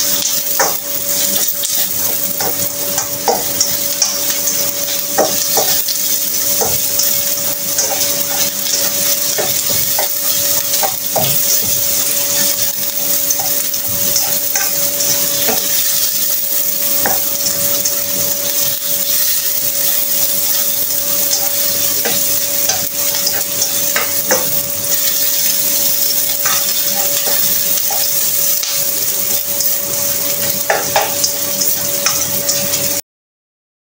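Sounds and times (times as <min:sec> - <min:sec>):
food sizzling in a wok: 0:00.0 - 0:33.0
spatula scraping a pan: 0:00.1 - 0:33.0.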